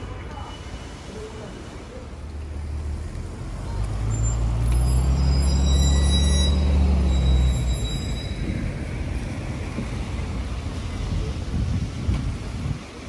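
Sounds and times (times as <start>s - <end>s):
train ride rumble: 0.0s - 13.0s.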